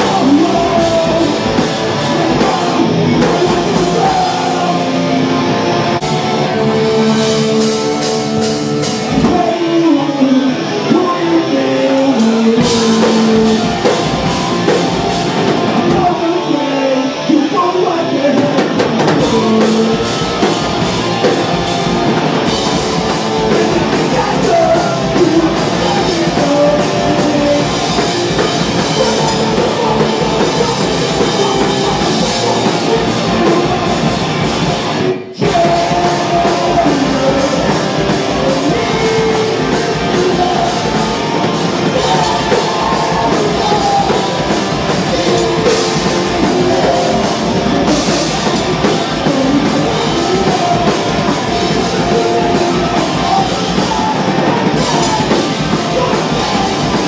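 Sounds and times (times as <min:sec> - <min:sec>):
man shouting lead vocal: 0:00.0 - 0:05.5, 0:06.1 - 0:14.4, 0:15.6 - 0:21.6, 0:22.6 - 0:57.0
hardcore band playing: 0:00.0 - 0:57.0.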